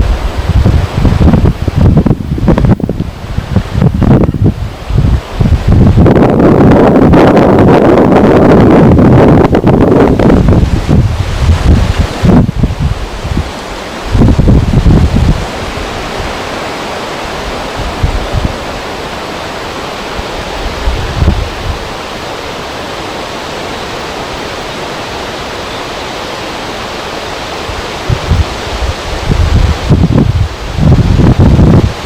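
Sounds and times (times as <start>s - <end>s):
wind gusts rumbling on microphone: 0.0s - 32.0s
wind rushing hiss: 0.0s - 32.0s.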